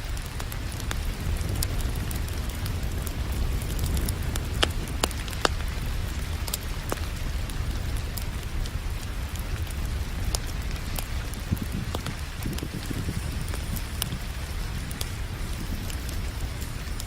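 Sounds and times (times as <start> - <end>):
rain hiss: 0.0 - 17.0
wood fire crackling: 0.0 - 17.0.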